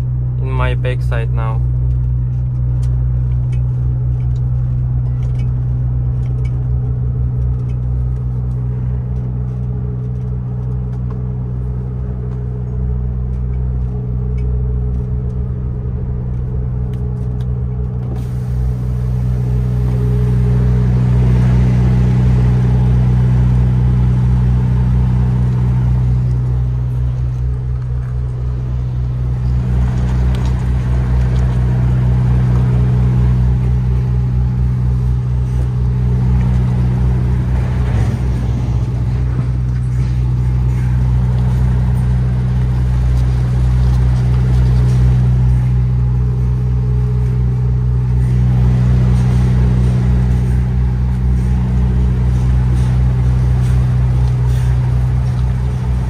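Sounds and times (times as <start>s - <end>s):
truck diesel engine at low revs: 0.0s - 56.0s.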